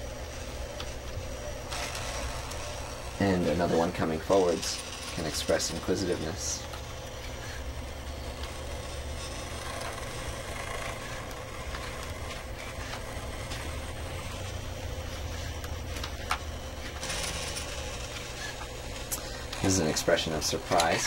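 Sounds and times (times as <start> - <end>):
faint servo whine: 0.0 - 21.0
robot motor hum: 0.0 - 21.0.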